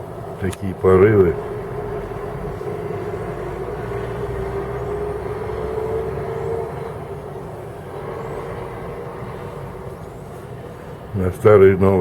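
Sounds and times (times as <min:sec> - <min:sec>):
howling wind gusting on microphone: 0:00.0 - 0:12.0.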